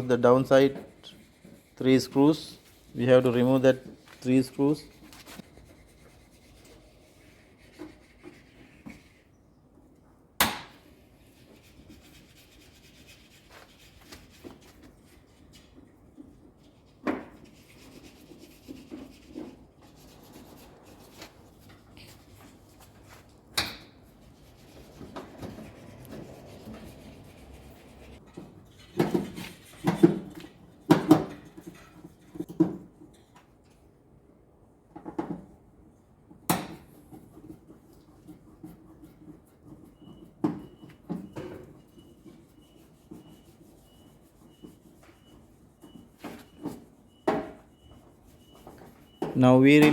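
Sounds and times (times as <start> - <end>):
rubbing and scraping: 0.0 - 9.3, 10.9 - 30.6, 36.8 - 49.2.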